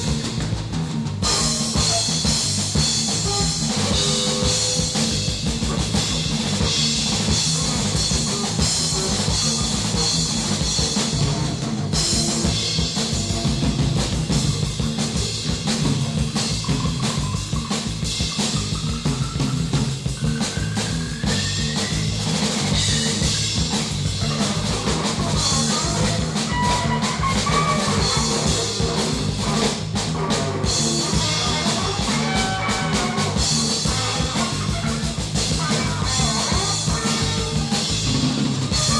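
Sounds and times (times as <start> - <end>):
bass drum beating: 0.0 - 38.9
noise rock band music: 0.0 - 38.9.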